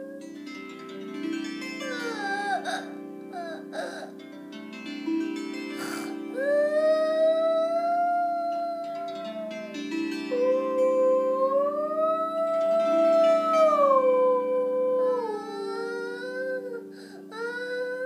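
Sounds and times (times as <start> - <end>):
child singing wordless notes: 0.0 - 0.4, 1.9 - 4.2, 5.8 - 18.0
plucked lap harp chords: 0.0 - 17.8.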